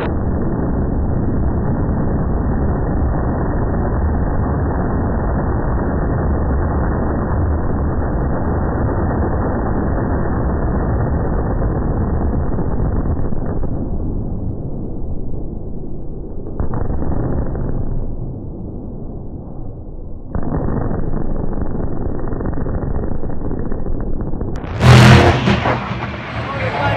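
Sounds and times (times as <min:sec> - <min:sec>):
slowed engine deep rumble: 0:00.0 - 0:26.9.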